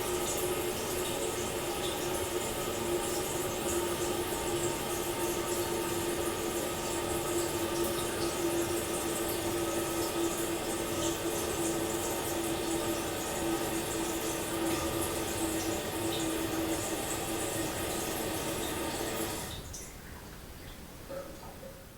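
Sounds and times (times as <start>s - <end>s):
toilet cistern refilling: 0.0s - 20.0s.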